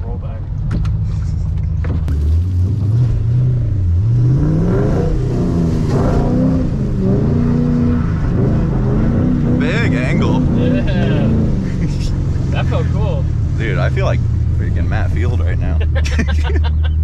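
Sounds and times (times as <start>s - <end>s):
car engine revving hard: 2.1s - 16.6s.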